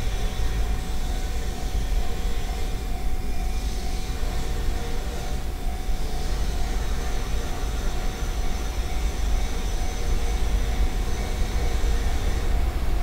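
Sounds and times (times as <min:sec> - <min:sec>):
faint steady whine: 0:00.0 - 0:13.0
freight train rumble: 0:00.0 - 0:13.0.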